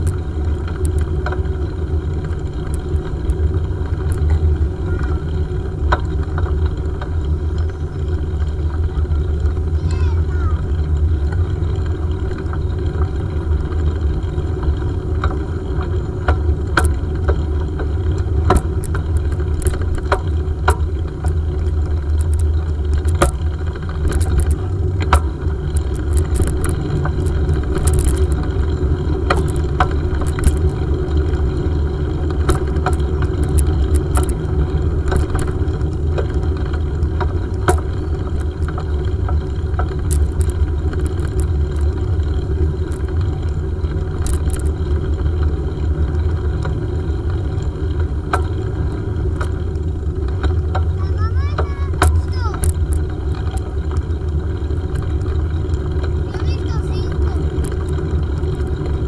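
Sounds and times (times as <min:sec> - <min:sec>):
bike clicks and rattles: 0:00.0 - 0:59.0
bike rumbling on pavement: 0:00.0 - 0:59.0.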